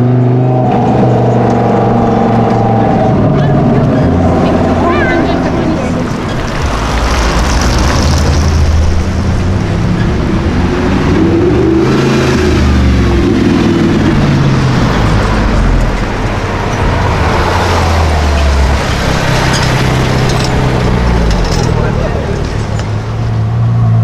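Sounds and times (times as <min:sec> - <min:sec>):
car engine revving: 0:00.0 - 0:24.0
street traffic: 0:00.0 - 0:24.0.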